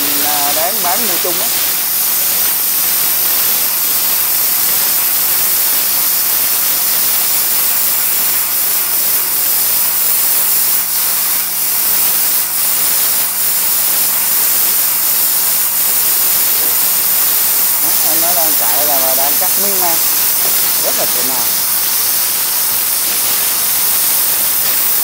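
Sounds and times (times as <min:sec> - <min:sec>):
plasma cutter hissing: 0:00.0 - 0:25.0.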